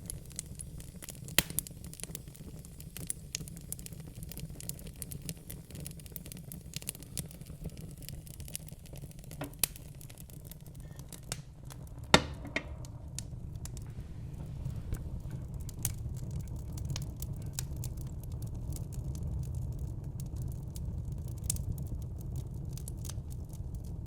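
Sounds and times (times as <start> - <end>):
low rumble of flame: 0.0 - 24.0
wood fire crackling and popping: 0.0 - 24.0.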